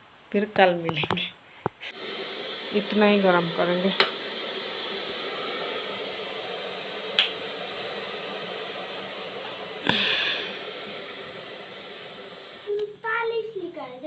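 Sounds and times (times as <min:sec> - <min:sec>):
hiss of water heating: 0:01.6 - 0:13.6.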